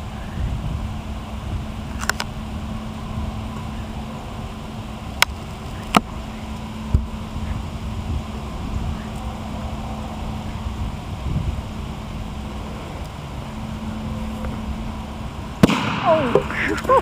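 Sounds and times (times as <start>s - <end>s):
faint constant hum: 0.0s - 17.0s
wind rumble on microphone: 0.0s - 17.0s.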